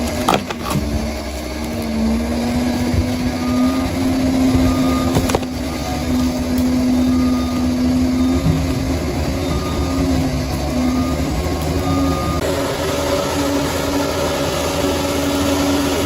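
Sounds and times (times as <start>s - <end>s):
bulldozer diesel engine rumbling: 0.0s - 16.0s.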